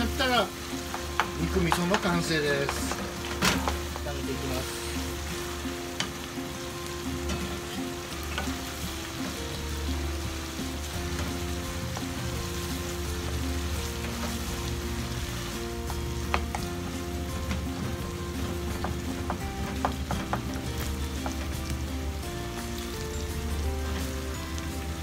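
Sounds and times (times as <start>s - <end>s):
meat sauce sizzling in a frying pan: 0.0s - 25.0s.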